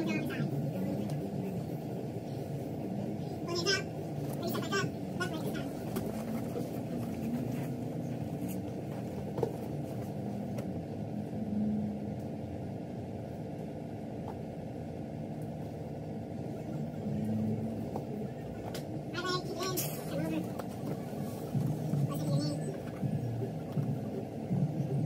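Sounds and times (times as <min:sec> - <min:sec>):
faint muffled voices: 0:00.0 - 0:12.1, 0:16.4 - 0:25.0
low room rumble: 0:00.0 - 0:25.0.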